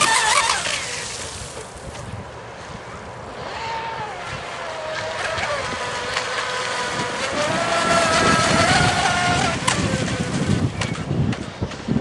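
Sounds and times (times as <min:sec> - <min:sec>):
electric motor high whine: 0:00.0 - 0:01.7, 0:03.0 - 0:11.6.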